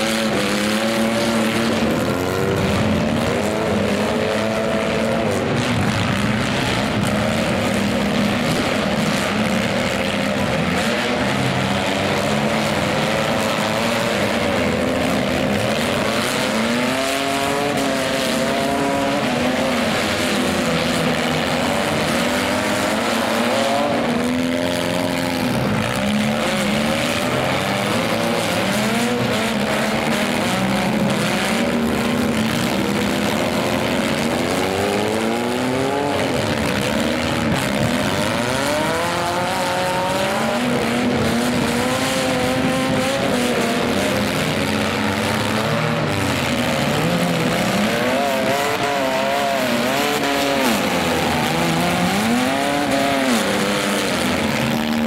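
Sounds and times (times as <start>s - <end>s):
minivan engines revving: 0.0s - 55.0s.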